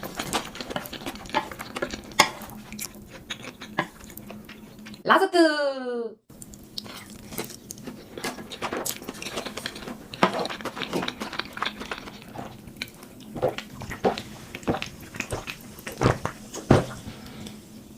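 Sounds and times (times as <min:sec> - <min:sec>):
chewing noodles: 0:00.0 - 0:05.0, 0:06.4 - 0:16.5.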